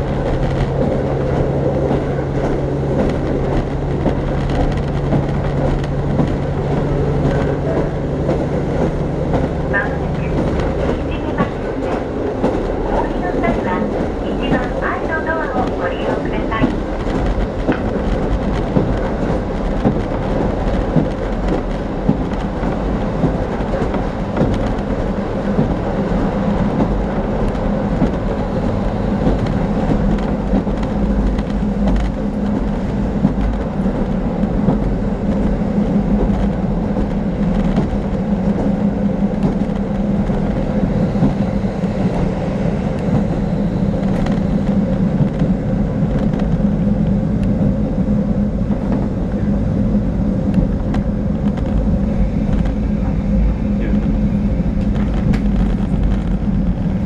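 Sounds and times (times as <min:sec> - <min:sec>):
railcar engine and wheels droning: 0:00.0 - 0:57.0.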